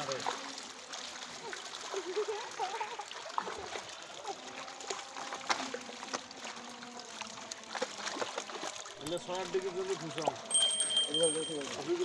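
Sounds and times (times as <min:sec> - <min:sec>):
short sharp splashes: 0:00.0 - 0:10.6
water trickling: 0:00.0 - 0:12.0.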